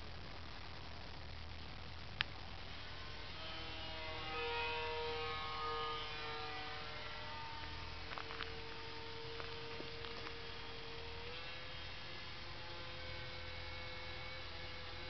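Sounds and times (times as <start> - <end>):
model airplane motor humming: 2.4 - 15.0.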